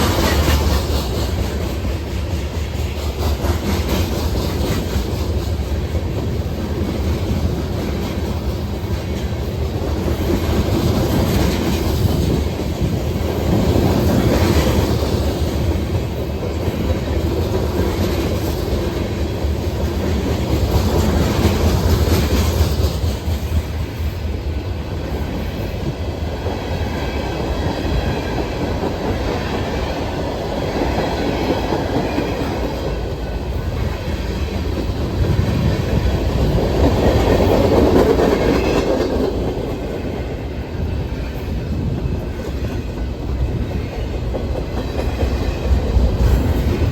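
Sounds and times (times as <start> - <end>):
train cars rumbling past: 0.0 - 46.9.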